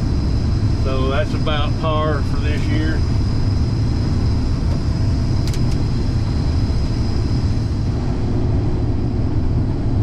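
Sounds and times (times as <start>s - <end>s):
combine engine drone: 0.0s - 10.0s
faint high whine: 0.0s - 10.0s.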